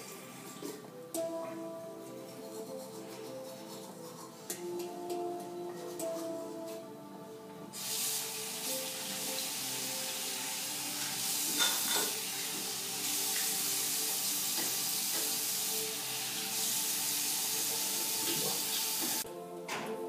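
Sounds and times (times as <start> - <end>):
background music with held notes: 0.0 - 20.0.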